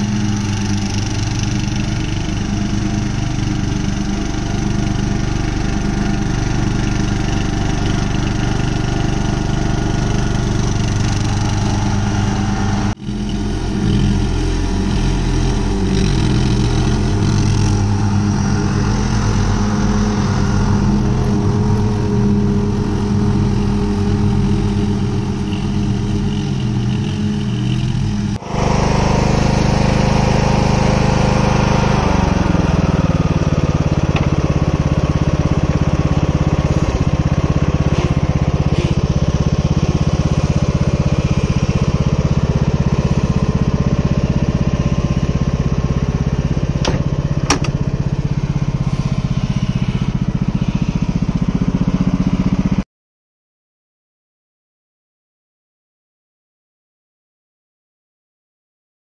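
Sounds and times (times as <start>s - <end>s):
lawn tractor engine mowing: 0.0s - 52.8s.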